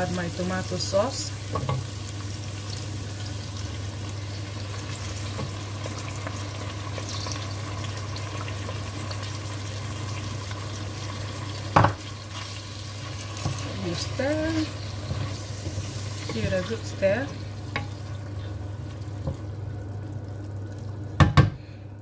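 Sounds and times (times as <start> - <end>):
meat sizzling in a frying pan: 0.0 - 21.4.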